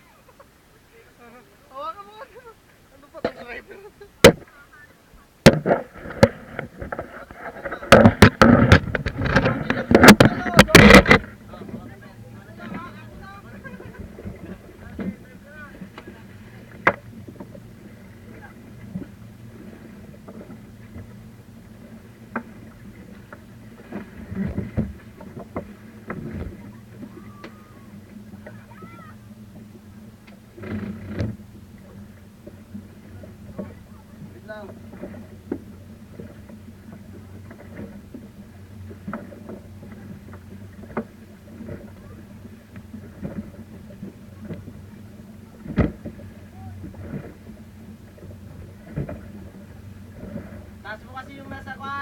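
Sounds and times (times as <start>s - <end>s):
motorboat engine humming: 0.0s - 52.0s
splashy thumps of boat: 5.4s - 52.0s.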